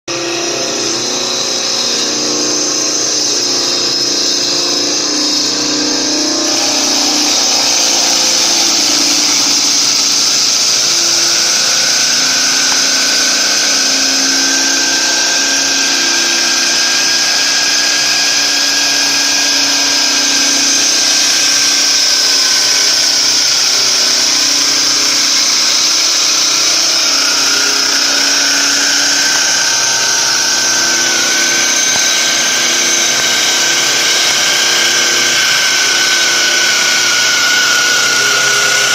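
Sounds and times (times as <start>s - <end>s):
wood lathe whine and hiss: 0.1s - 38.9s.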